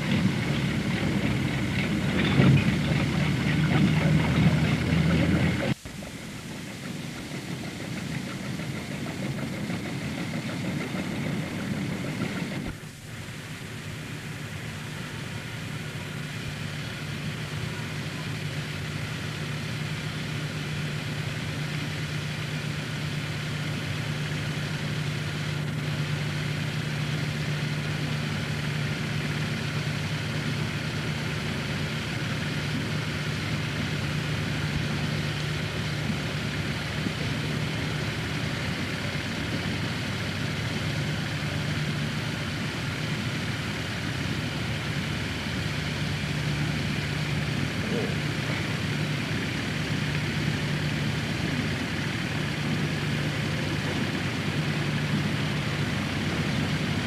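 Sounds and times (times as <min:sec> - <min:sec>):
constant hiss: 0:00.0 - 0:57.0
low mechanical hum: 0:00.0 - 0:57.0.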